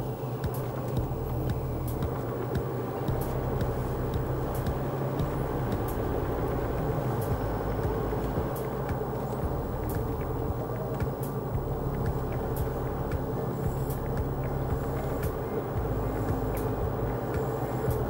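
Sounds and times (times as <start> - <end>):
car driving heard from cabin: 0.0 - 18.0
faint light ticks: 0.4 - 18.0.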